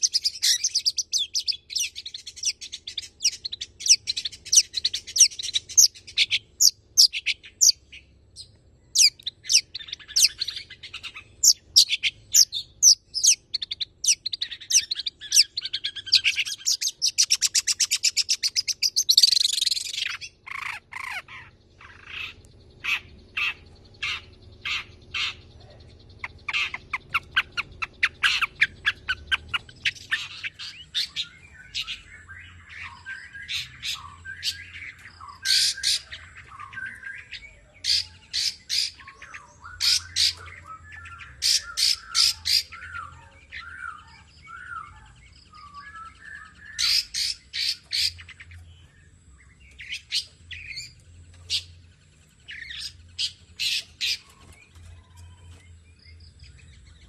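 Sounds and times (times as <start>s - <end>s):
bird trill: 0.0s - 57.0s.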